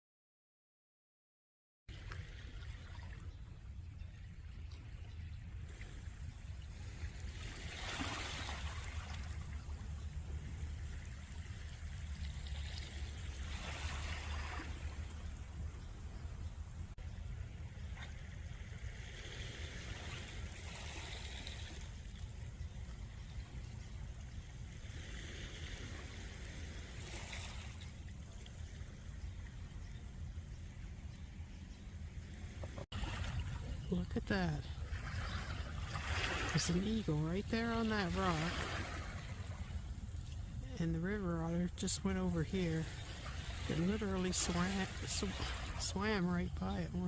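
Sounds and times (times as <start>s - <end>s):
small waves washing on shore: 1.9s - 47.0s.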